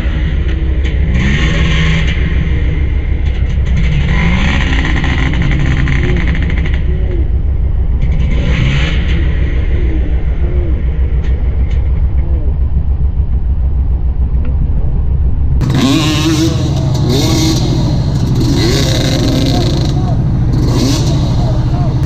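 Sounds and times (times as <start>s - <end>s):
dirt bike engine revving: 0.0s - 13.8s, 15.6s - 22.0s
heavy low rumble: 0.0s - 22.0s.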